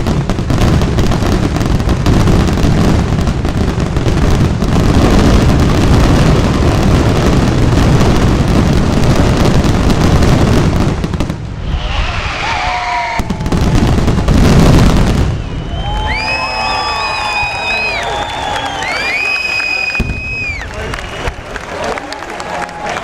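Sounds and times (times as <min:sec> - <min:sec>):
fireworks whistling: 0:00.0 - 0:21.6
fireworks bangs and crackles: 0:00.0 - 0:22.8.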